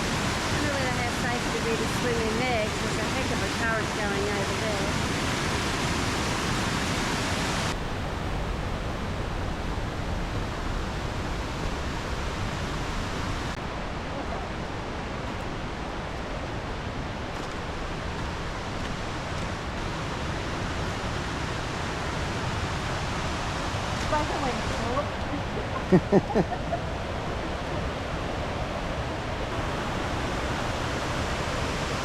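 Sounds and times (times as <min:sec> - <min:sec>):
waterfall rushing: 0:00.0 - 0:08.4, 0:10.7 - 0:32.0.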